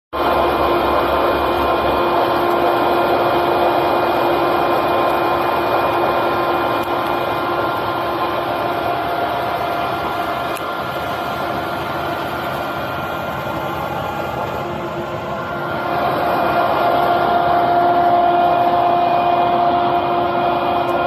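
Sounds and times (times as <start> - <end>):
electric grinder running: 0.2 - 21.0.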